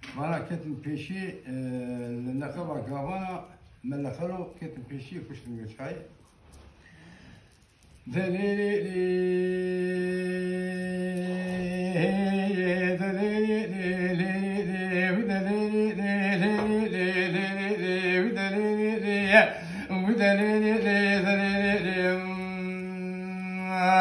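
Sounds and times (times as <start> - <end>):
man singing unaccompanied: 0.0 - 3.5, 8.0 - 24.0.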